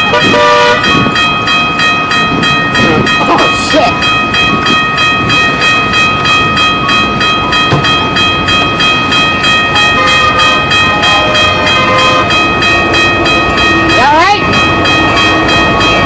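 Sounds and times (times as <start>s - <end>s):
train wheels clattering: 0.0s - 16.0s.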